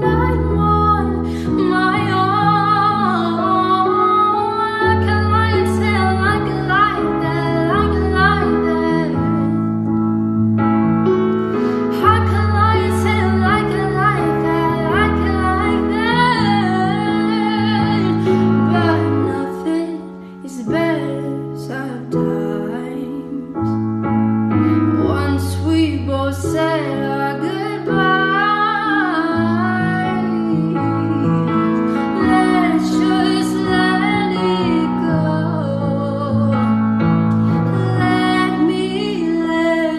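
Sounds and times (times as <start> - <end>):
woman singing: 0.0 - 10.0, 11.6 - 23.8, 24.6 - 39.9
piano chords: 0.0 - 39.9.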